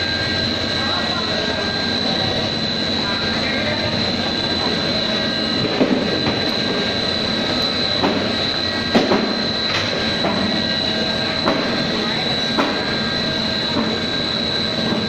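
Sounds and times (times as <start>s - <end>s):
constant high whine: 0.0s - 15.0s
mechanical drone: 0.0s - 15.0s.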